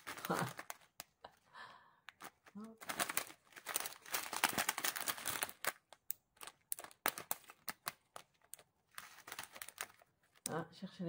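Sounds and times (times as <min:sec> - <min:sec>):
plastic bags crinkling: 0:00.0 - 0:01.5, 0:02.1 - 0:10.6.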